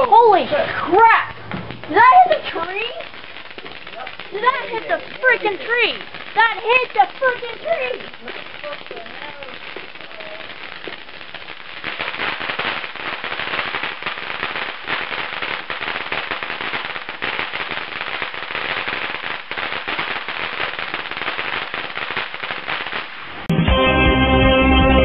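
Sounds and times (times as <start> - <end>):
firework fountain crackling: 0.0 - 23.5.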